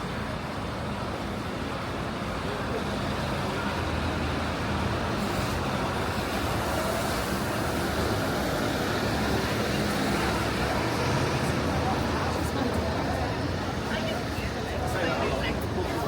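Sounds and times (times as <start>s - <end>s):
passing vehicles road noise: 0.0s - 16.0s.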